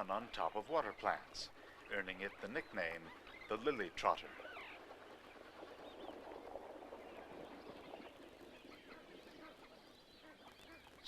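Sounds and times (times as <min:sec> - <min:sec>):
waterbirds calling: 0:00.0 - 0:11.0.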